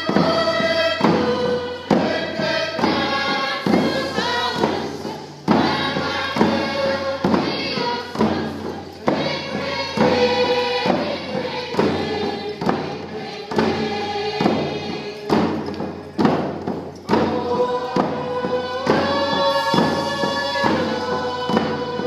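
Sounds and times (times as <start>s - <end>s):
drum steady beat: 0.0s - 22.0s
voices singing together: 0.0s - 22.0s.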